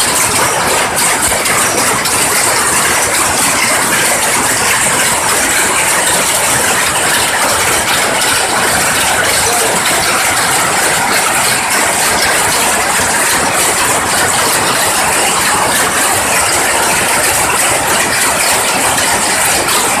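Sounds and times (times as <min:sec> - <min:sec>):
power looms clattering: 0:00.0 - 0:20.0.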